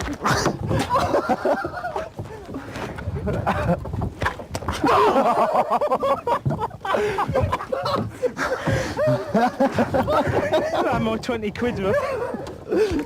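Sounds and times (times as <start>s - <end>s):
men laughing and whooping: 0.0s - 13.0s.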